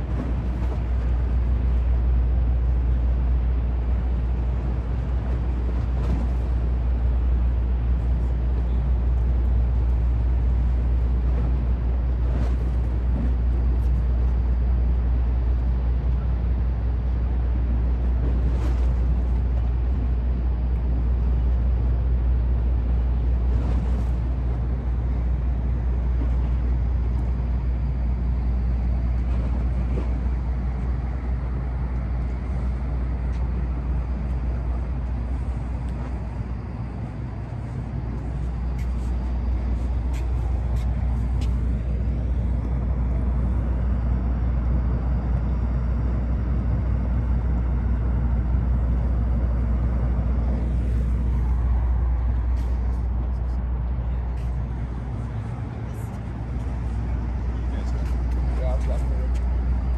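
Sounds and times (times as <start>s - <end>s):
low urban waterfront rumble: 0.0s - 59.9s.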